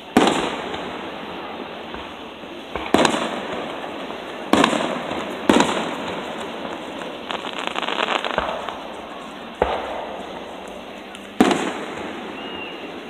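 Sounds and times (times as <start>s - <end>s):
fast firework crackling: 0.0s - 13.0s
firework shells bursting: 0.0s - 13.0s.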